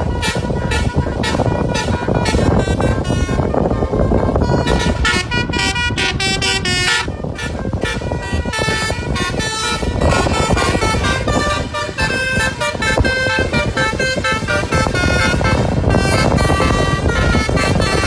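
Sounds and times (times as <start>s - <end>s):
low engine rumble: 0.0s - 18.0s
multi-tone musical air horn: 0.0s - 18.0s.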